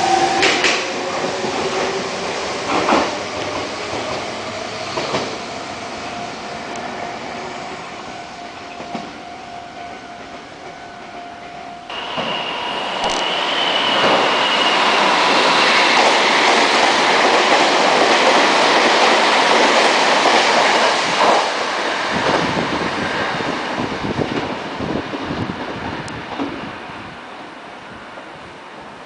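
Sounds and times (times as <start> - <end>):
train wheels rushing on rail: 0.0 - 9.3, 11.9 - 29.0
high train whine: 0.0 - 29.0.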